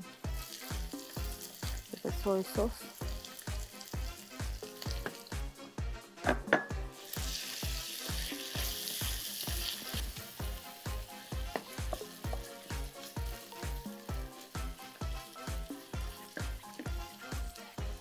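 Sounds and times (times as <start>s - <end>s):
meat sizzling in a frying pan: 0.0s - 6.0s, 6.7s - 18.0s
background music with steady beat: 0.0s - 18.0s.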